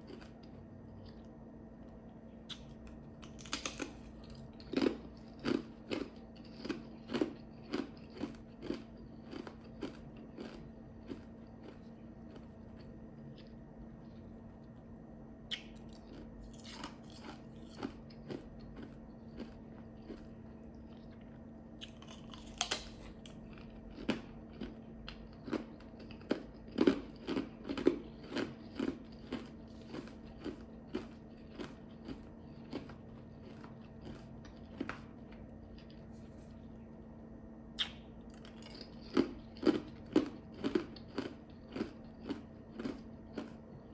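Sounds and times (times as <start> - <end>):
ice being chewed crunching: 0.0 - 1.3, 2.5 - 14.8, 15.5 - 36.8, 37.8 - 43.9
faint steady hum: 0.0 - 43.9.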